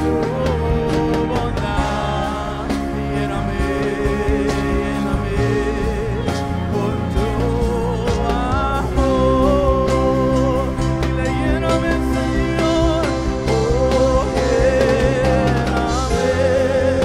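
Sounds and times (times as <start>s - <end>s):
instrumental accompaniment: 0.0s - 17.0s
person singing with vibrato: 0.0s - 17.0s.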